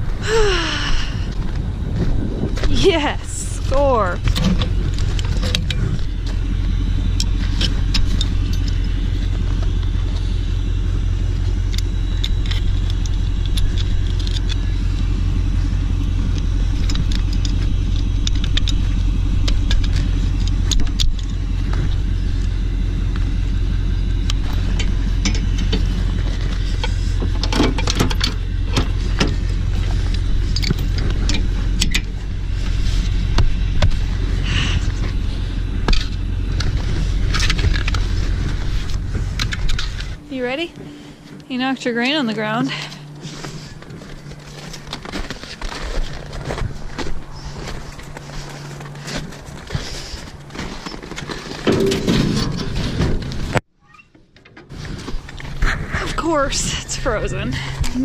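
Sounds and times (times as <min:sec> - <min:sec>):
truck engine idling: 0:00.0 - 0:53.7, 0:54.7 - 0:58.0.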